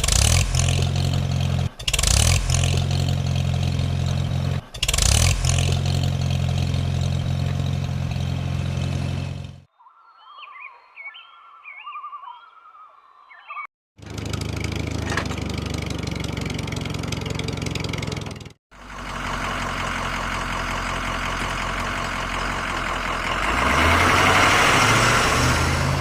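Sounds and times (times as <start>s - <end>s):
vehicle engine chugging: 0.0s - 9.7s, 14.0s - 26.0s.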